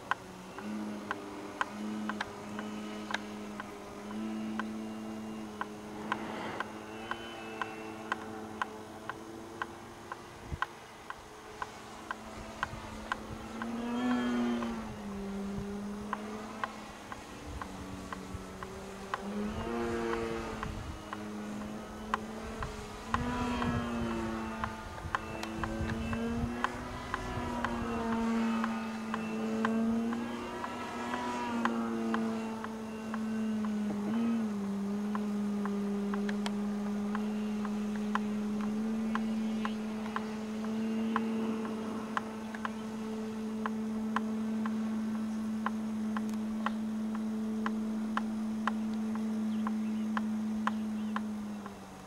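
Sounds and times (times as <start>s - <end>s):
faint sharp ticks: 0.0s - 52.0s
model plane electric motor buzzing: 0.0s - 52.0s.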